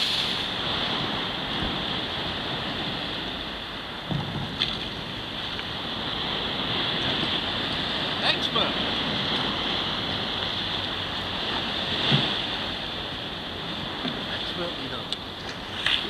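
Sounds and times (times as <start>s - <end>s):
small waves breaking: 0.0s - 16.0s
wind on microphone: 0.0s - 16.0s.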